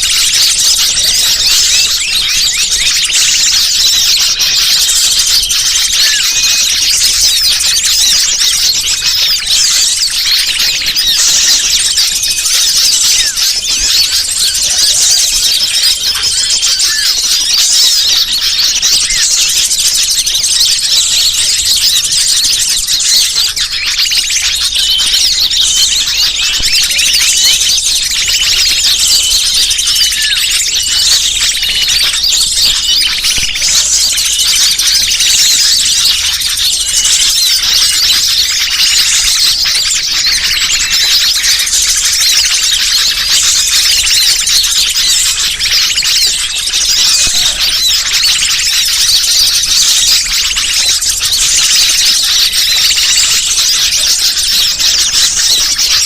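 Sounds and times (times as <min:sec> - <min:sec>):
songbirds chirping and twittering: 0:00.0 - 0:56.0.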